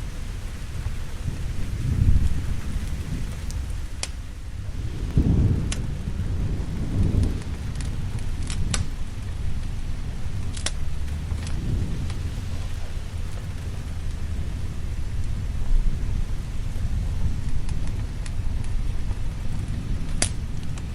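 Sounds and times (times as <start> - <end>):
low rolling thunder: 0.0 - 20.9
steady rain: 0.0 - 20.9
wood fire crackling: 0.0 - 20.9.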